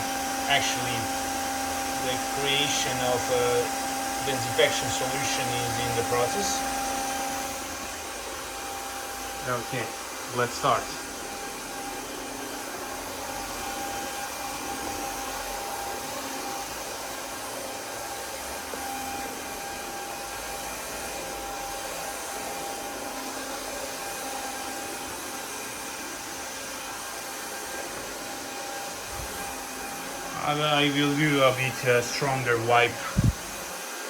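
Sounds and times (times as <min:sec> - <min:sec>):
cordless vacuum running: 0:00.0 - 0:34.0.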